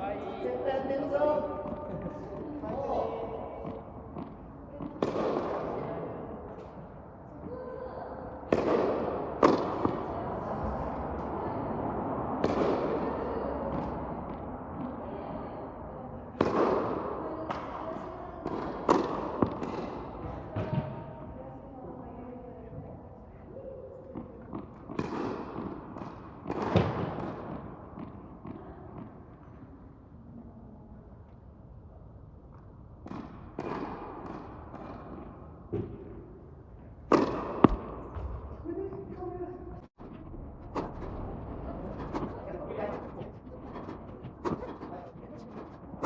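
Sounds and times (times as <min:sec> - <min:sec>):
tennis balls struck with echo: 0:00.0 - 0:21.4, 0:24.0 - 0:29.9, 0:32.5 - 0:38.9, 0:40.0 - 0:46.0.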